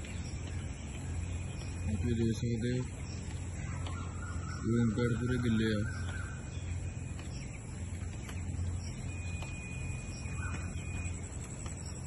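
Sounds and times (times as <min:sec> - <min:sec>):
faint bird calls: 0:00.0 - 0:12.0
low machine hum: 0:00.0 - 0:12.0.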